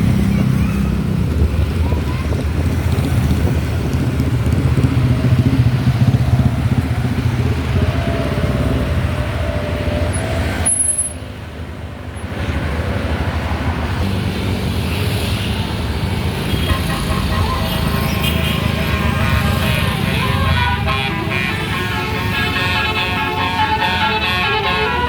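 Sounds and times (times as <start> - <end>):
traffic engine rumble: 0.0 - 25.0.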